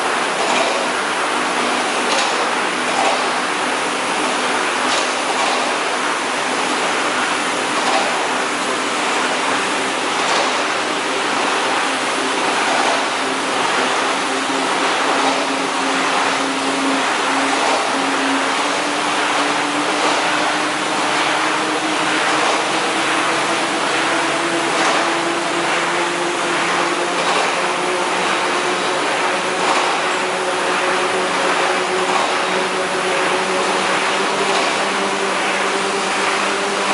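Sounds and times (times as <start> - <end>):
veneer lathe machine running: 0.0 - 36.9.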